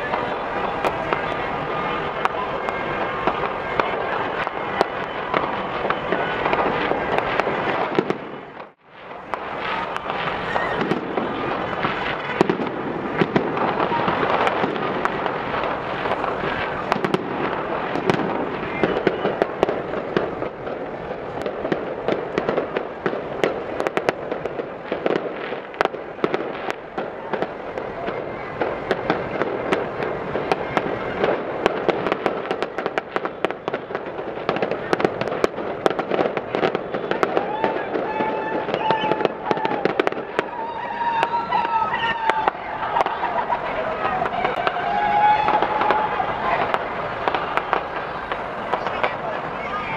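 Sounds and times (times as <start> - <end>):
distant fireworks bangs and crackles: 0.0 - 49.9.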